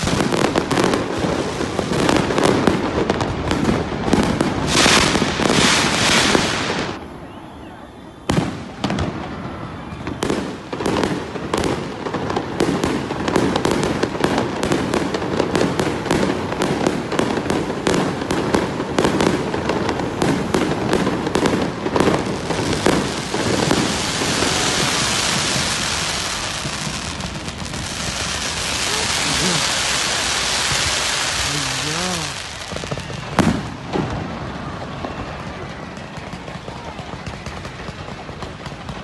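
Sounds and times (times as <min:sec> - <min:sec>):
fireworks hissing crackle: 0:00.0 - 0:07.3, 0:07.9 - 0:39.0.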